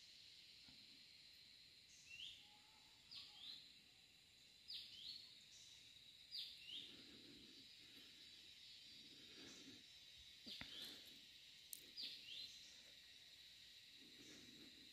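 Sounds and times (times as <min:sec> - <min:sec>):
high-pitched insect drone: 0:00.0 - 0:14.9.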